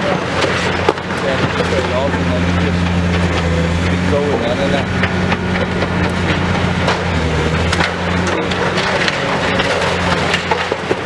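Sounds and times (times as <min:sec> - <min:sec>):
debris breaking and crunching: 0:00.0 - 0:11.0
excavator engine running: 0:00.0 - 0:11.0.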